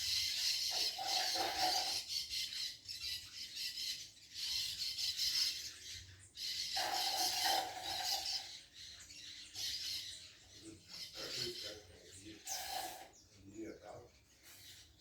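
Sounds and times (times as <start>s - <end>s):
birds chattering: 0.0s - 15.0s.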